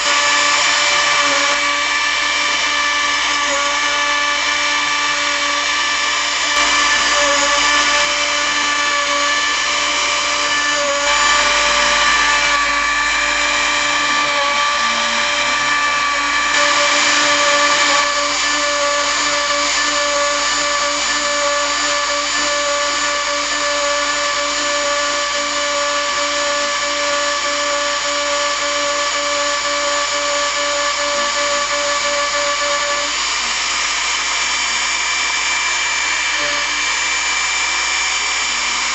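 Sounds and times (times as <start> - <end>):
milling cutting noise: 0.0 - 33.1
milling spindle whine: 0.0 - 38.9.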